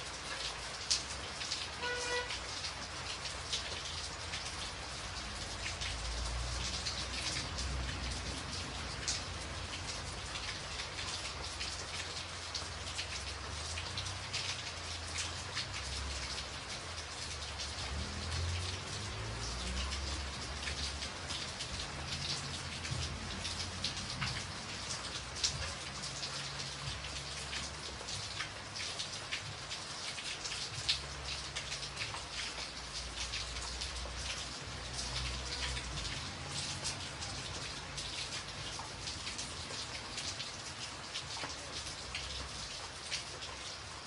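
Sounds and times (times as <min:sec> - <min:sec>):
steady rainfall: 0:00.0 - 0:44.0.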